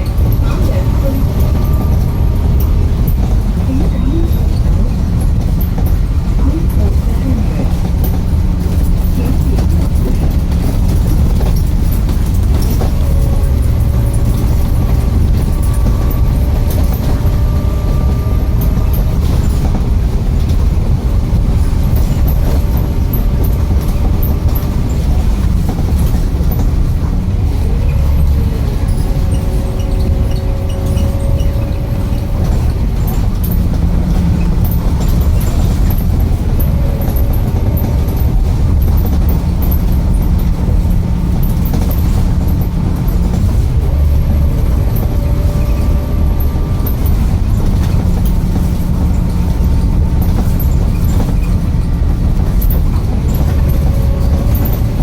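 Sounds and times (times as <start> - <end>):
vehicle engine rumble and whine: 0.0 - 55.0.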